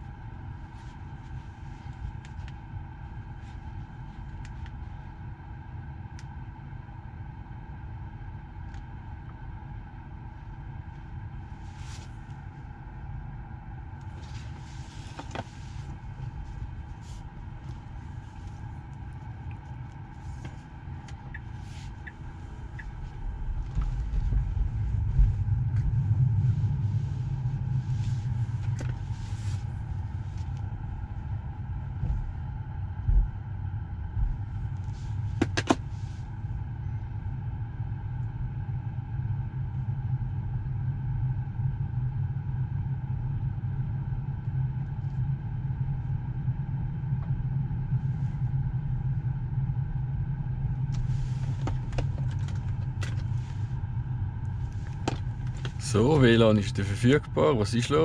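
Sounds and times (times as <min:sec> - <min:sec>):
low rumble inside a car: 0:00.0 - 0:58.0.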